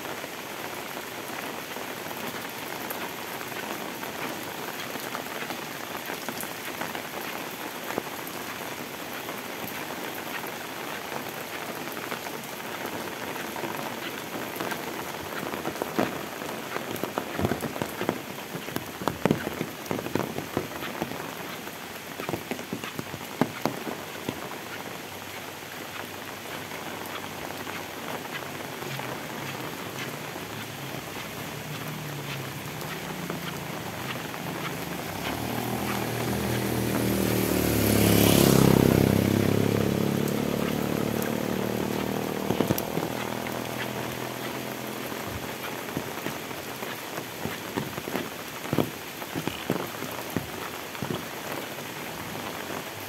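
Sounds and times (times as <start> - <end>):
heavy rain on road and leaves: 0.0 - 53.0.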